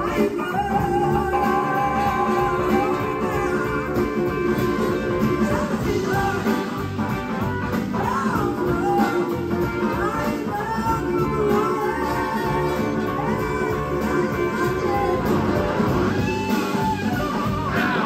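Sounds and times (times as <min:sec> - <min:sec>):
woman singing: 0:00.0 - 0:07.0, 0:08.0 - 0:18.0
bass and drums: 0:00.0 - 0:18.0
electric guitars: 0:00.0 - 0:18.0.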